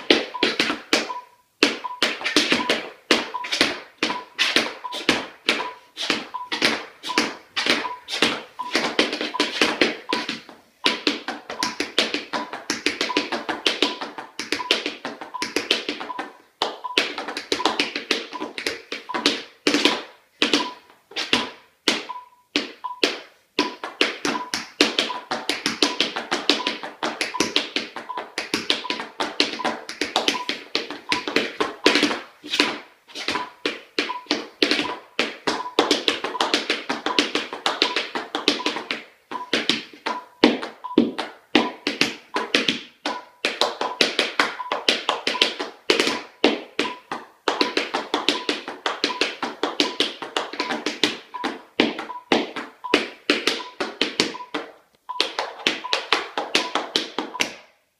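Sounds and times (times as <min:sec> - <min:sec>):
tap shoes on wooden floor: 0:00.0 - 0:57.7.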